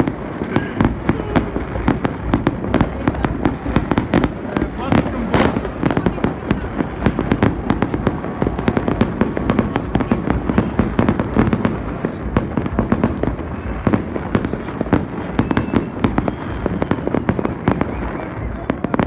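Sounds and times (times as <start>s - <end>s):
fireworks and firecrackers banging: 0.0s - 19.0s.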